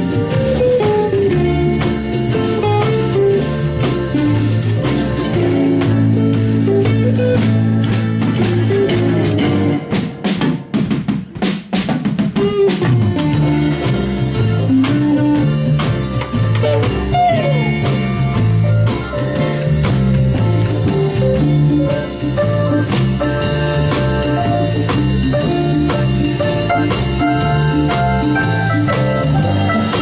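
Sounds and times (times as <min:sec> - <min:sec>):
blues band music: 0:00.0 - 0:30.0
drum hits: 0:00.0 - 0:30.0.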